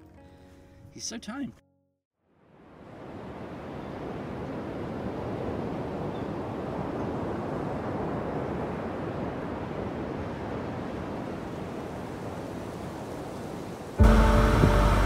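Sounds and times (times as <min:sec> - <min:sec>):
wind: 0:02.2 - 0:15.0.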